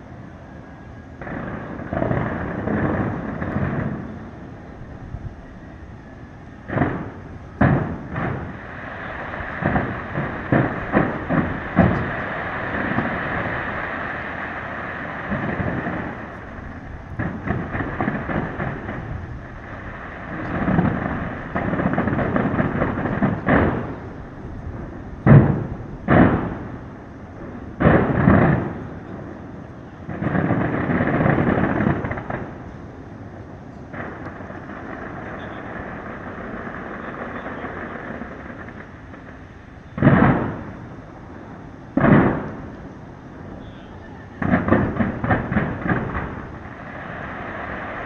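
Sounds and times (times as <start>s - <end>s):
fireworks booming: 0.0s - 48.0s
fireworks crackling: 0.0s - 48.0s.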